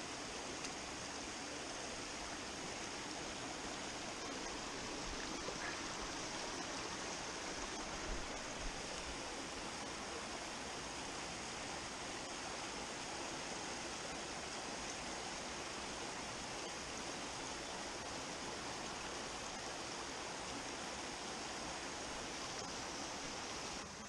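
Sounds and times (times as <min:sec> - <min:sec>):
stream splashing over rocks: 0:00.0 - 0:24.0.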